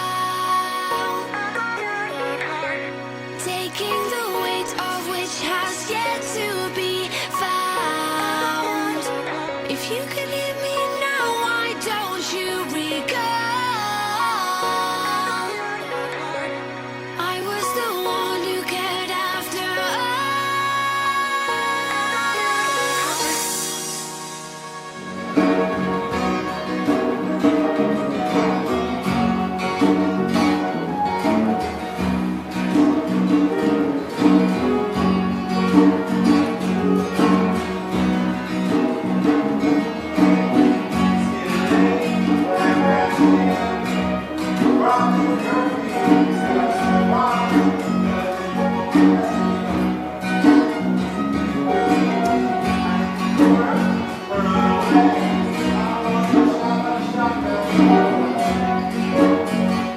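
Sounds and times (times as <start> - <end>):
plucked guitar music: 0.0 - 59.9.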